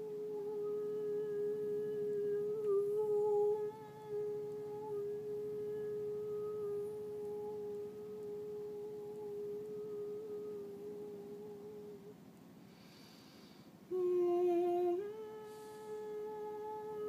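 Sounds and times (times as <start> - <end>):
woman humming: 0.0 - 12.2, 13.9 - 17.0.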